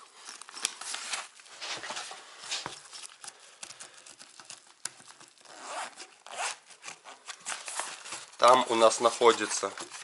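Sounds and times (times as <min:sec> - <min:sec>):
plastic packaging rustling: 0:00.0 - 0:10.0.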